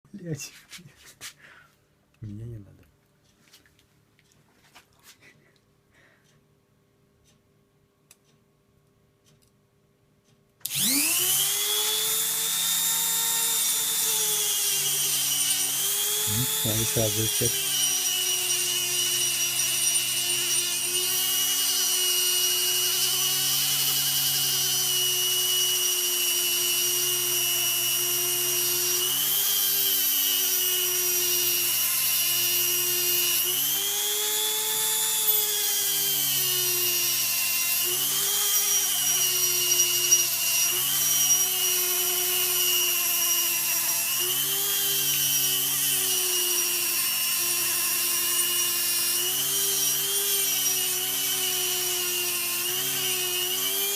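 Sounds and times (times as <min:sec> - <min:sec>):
power tool motor whining: 0:10.6 - 0:53.9.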